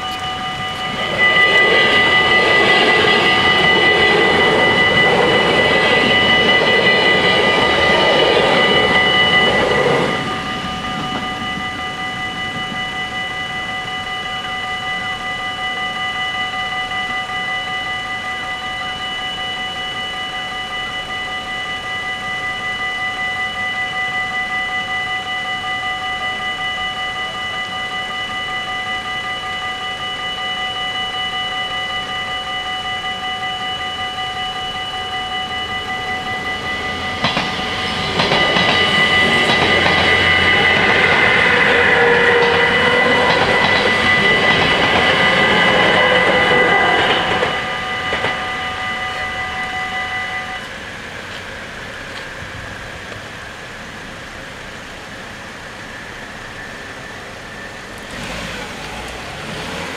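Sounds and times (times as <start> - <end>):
electric train passing: 0.0 - 59.9
level crossing warning bells: 0.0 - 59.9.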